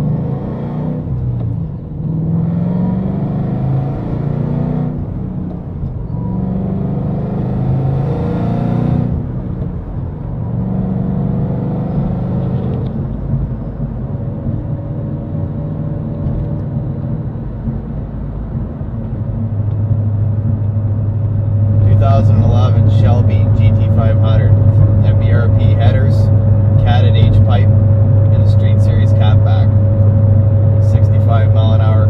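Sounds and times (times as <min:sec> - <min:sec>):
car engine accelerating through gears: 0:00.0 - 0:32.0.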